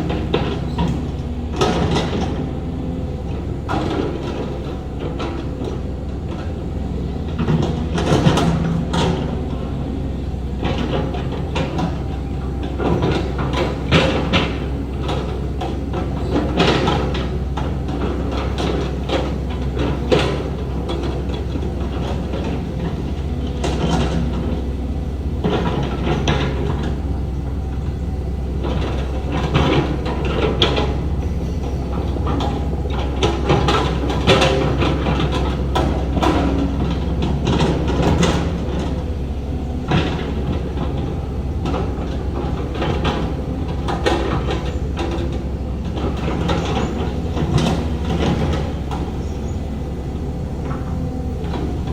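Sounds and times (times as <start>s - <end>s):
diesel engine drone: 0.0s - 51.9s.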